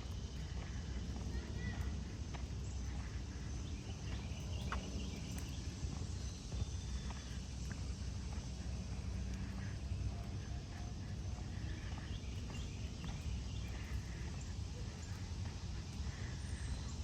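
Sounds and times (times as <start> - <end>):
footsteps on sidewalk: 0.0 - 17.0.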